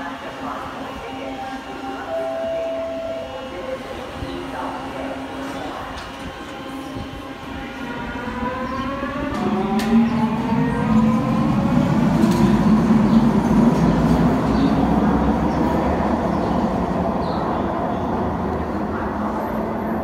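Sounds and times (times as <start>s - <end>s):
electric train whine: 0.0s - 20.0s
train hum and rumble: 0.0s - 20.0s.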